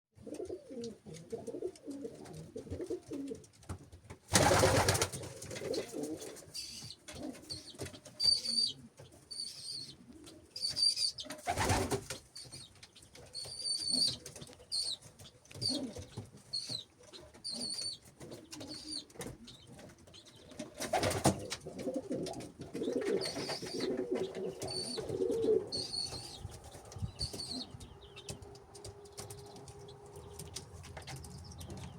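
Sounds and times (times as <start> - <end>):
pigeons cooing: 0.2 - 3.5, 4.4 - 12.0, 15.6 - 31.9.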